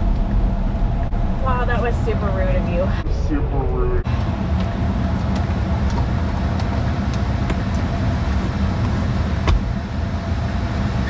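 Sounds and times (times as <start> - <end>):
road and tyre rumble: 0.0 - 11.0.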